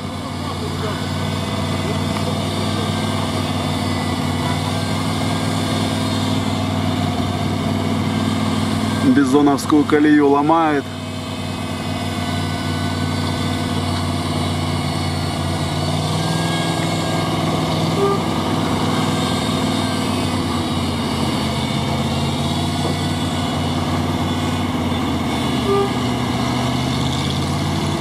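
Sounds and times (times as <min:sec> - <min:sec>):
jeep engine running under load: 0:00.0 - 0:28.0.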